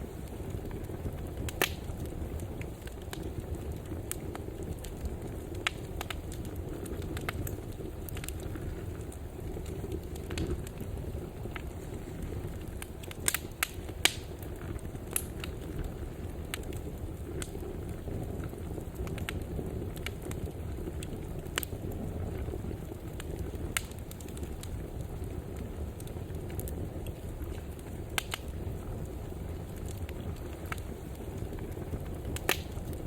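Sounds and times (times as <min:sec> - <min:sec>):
fire crackling and popping: 0:00.0 - 0:33.0
fire flames rumbling: 0:00.0 - 0:33.0.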